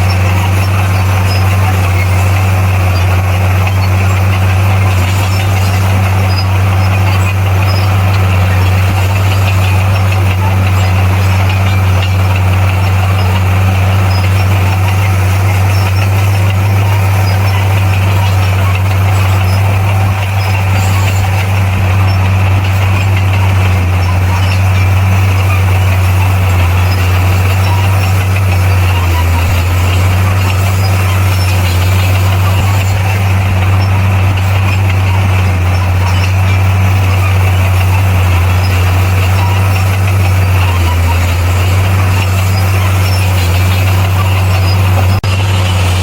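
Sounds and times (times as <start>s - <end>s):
bulldozer diesel engine droning: 0.0s - 46.0s.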